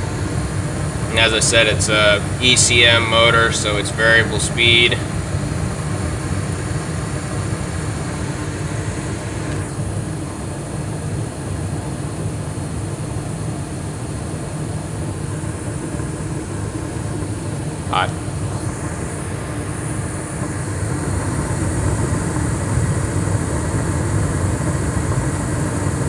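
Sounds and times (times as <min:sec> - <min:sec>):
furnace burners and blower rumbling: 0:00.0 - 0:26.0.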